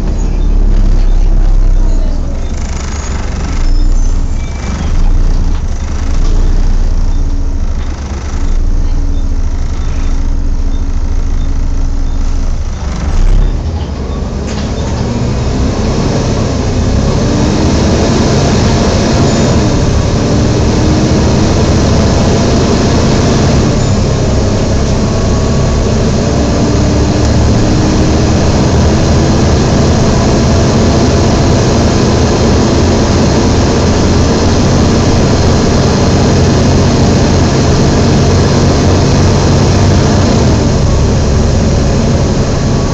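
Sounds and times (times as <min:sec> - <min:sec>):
bus diesel engine pulling: 0:00.0 - 0:42.9
cooling fan drone: 0:00.0 - 0:42.9.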